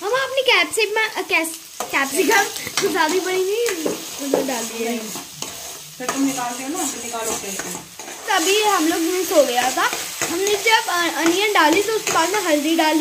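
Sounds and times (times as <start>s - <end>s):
vegetables sizzling in oil: 0.0s - 13.0s
metal spoon scraping pan: 1.7s - 13.0s.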